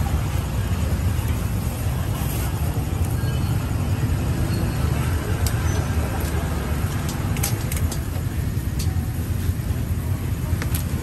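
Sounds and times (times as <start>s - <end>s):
passing motor traffic rumble: 0.0s - 11.0s.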